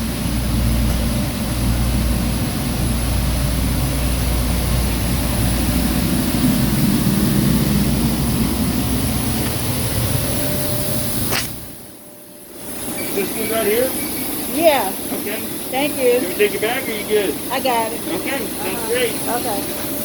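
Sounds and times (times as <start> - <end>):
jet engine high-pitched whine: 0.0 - 20.0
jet engine low rumble: 0.0 - 20.0.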